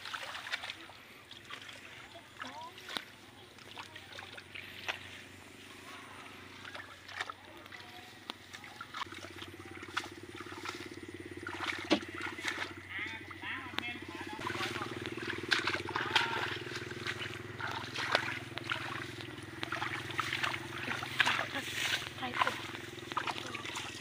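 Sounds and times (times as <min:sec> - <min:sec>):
hands splashing in muddy water: 0:00.0 - 0:13.4, 0:14.2 - 0:24.0
low pulsing buzz: 0:00.0 - 0:24.0.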